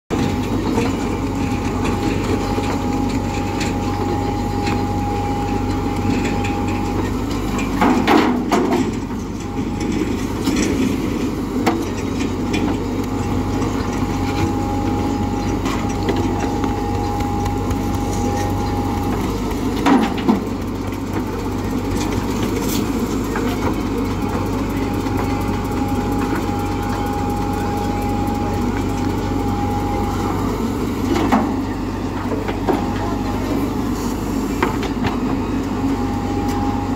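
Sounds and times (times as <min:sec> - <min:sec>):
diesel engine running under load: 0:00.1 - 0:36.9
steady whine: 0:00.1 - 0:36.9.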